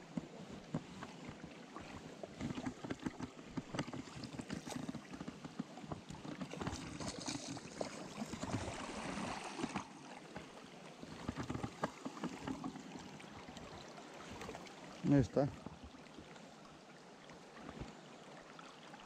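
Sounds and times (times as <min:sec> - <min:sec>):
river water splashing: 0:00.0 - 0:19.0.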